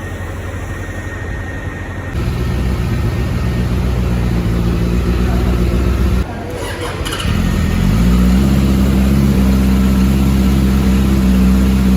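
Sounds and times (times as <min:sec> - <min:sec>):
vehicle engine idling: 0:02.2 - 0:11.9.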